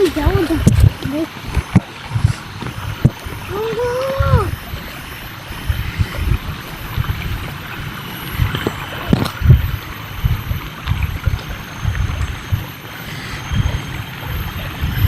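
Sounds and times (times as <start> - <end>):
faint high whine: 0.0 - 15.0
low rumbling and thumps on microphone: 0.0 - 15.0.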